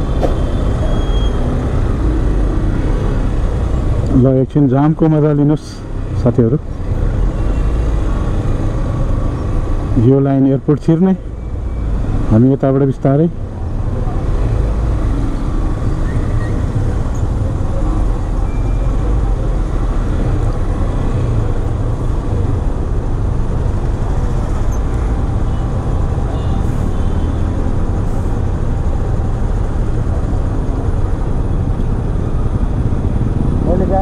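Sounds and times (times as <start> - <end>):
traffic engines rumbling: 0.0 - 34.0.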